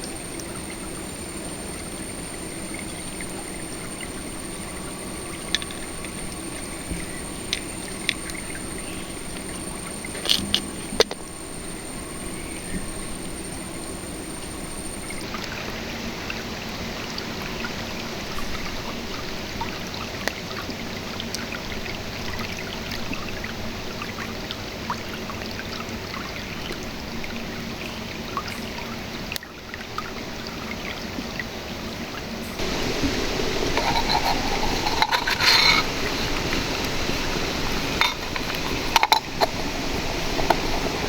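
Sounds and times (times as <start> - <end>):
river water running over stones: 0.0 - 27.7, 32.6 - 41.0.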